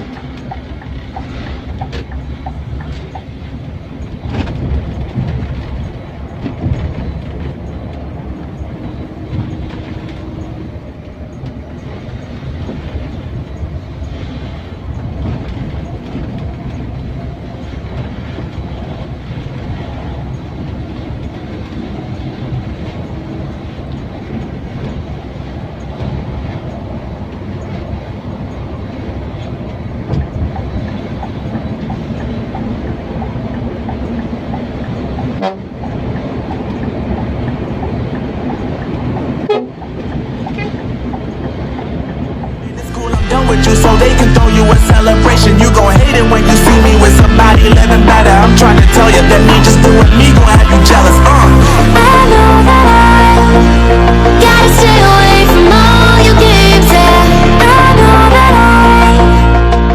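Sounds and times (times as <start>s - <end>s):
coach engine and road rumble: 0.0s - 59.9s.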